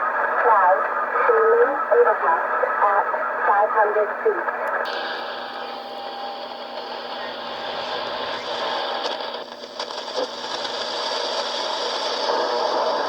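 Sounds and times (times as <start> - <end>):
radio hiss and static: 0.0 - 13.0.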